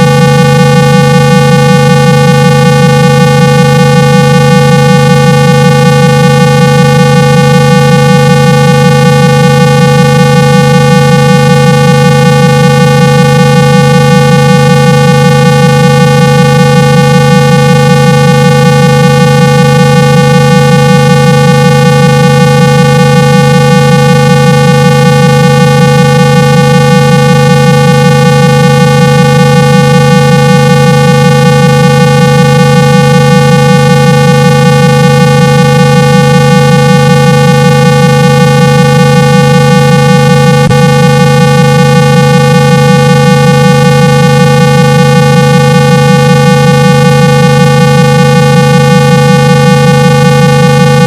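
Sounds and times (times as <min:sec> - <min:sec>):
low buzzing test tone: 0:00.0 - 0:51.0.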